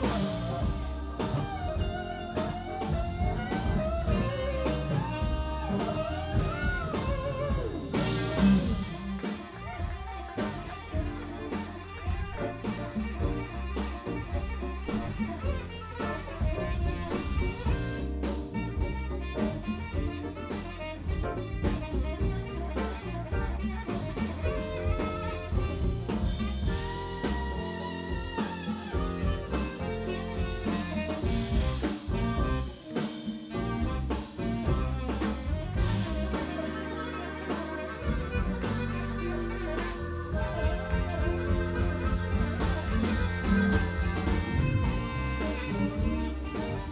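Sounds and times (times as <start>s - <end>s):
band playing instrumental: 0.0s - 46.9s
saxophone long held notes: 0.0s - 46.9s.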